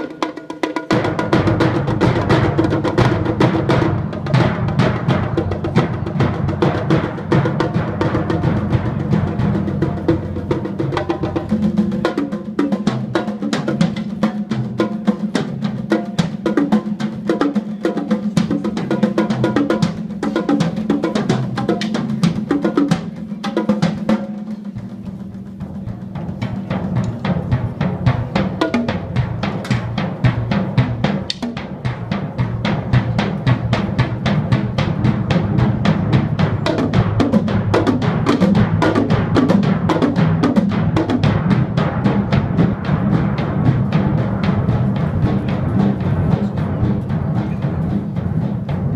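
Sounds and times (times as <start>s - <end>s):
percussion ensemble drumming: 0.0s - 48.9s.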